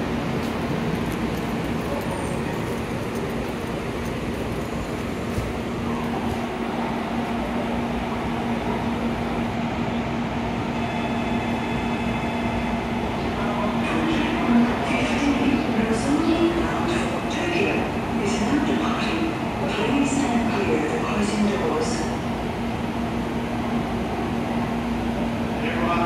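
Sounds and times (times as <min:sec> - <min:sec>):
train equipment humming: 0:00.0 - 0:26.0.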